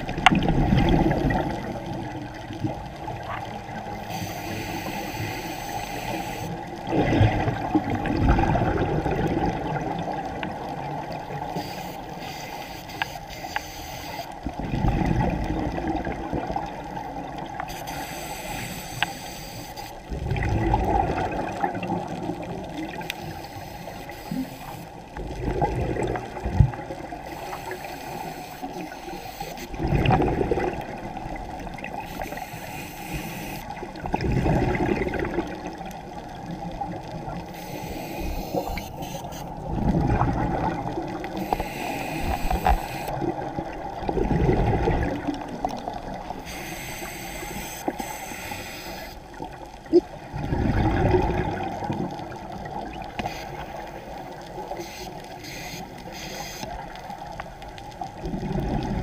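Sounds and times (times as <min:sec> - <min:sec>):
exhaled bubbles underwater: 0:00.0 - 0:04.3, 0:06.1 - 0:12.2, 0:14.3 - 0:18.6, 0:20.0 - 0:23.7, 0:24.3 - 0:29.0, 0:29.7 - 0:32.5, 0:33.1 - 0:46.6, 0:49.2 - 0:55.4, 0:56.7 - 0:59.0
quiet bubbling hiss: 0:00.0 - 0:59.0.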